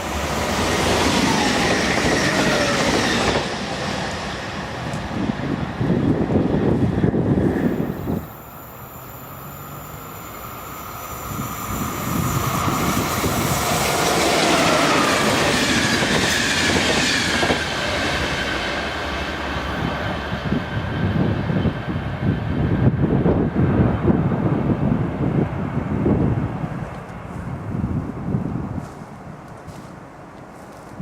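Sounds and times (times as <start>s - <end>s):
train passing: 0.0s - 31.0s.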